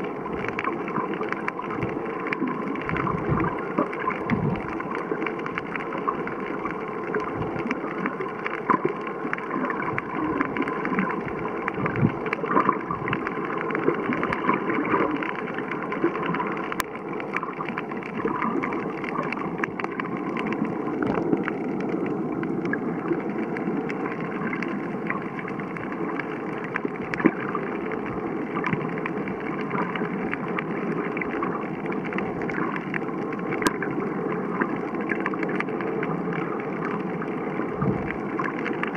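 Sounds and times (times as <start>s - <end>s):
small underwater clicks and crackles: 0.0s - 38.9s.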